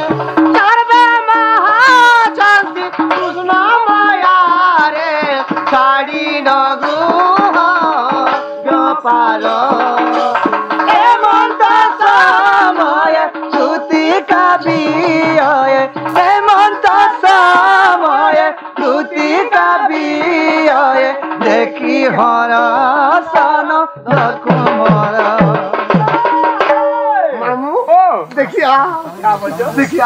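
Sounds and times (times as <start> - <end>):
barrel drum beating fast: 0.0 - 27.6
person singing folk song: 0.0 - 30.0.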